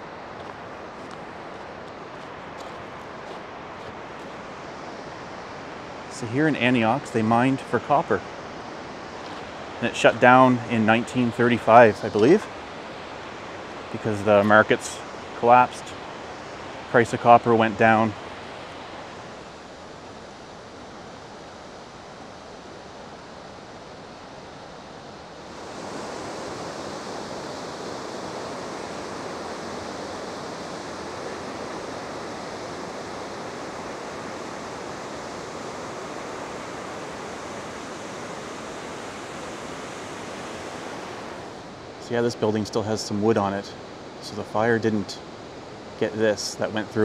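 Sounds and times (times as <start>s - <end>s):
whitewater rushing: 0.0s - 21.4s, 25.1s - 43.5s.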